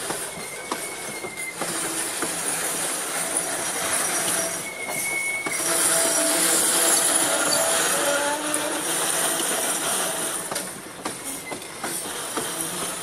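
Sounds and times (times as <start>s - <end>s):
high-pitched wheel squeal: 0.0s - 10.5s, 11.2s - 13.0s
freight train wheels on rails: 0.0s - 13.0s.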